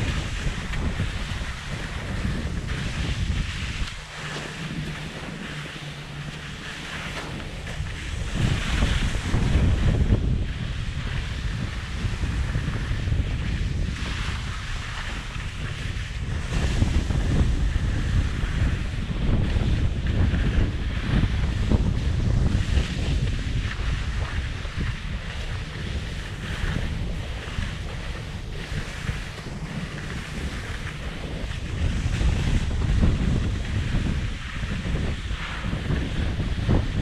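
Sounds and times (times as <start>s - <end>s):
skis scraping over snow: 0.0s - 37.0s
wind buffeting microphone: 0.0s - 37.0s.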